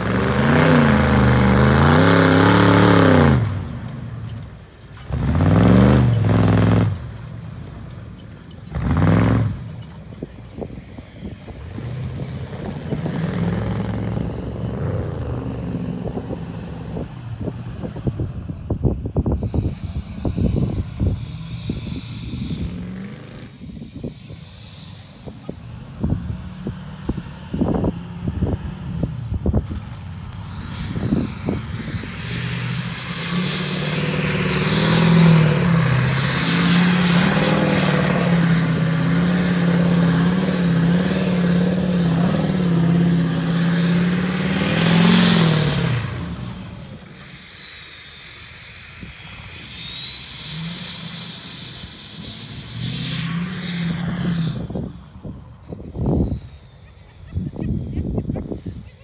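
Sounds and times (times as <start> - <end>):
truck engine with high whine: 0.0 - 59.0.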